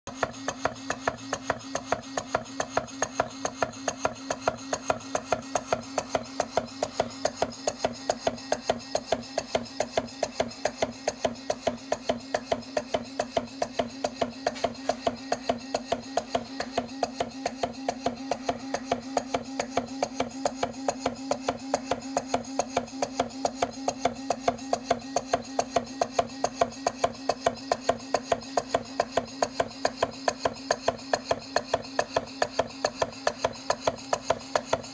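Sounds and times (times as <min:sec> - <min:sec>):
model engine running: 0:00.1 - 0:34.9.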